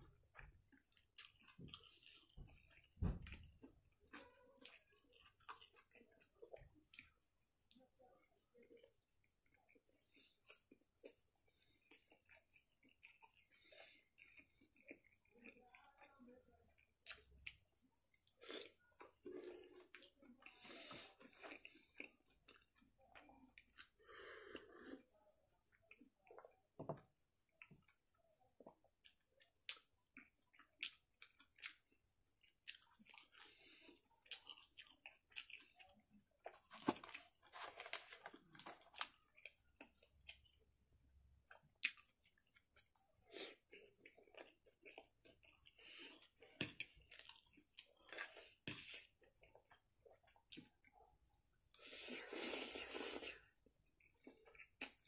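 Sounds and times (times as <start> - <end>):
chewing and mouth sounds: 0.3 - 7.7, 8.6 - 16.1, 16.7 - 25.1, 27.6 - 40.6, 41.5 - 55.0.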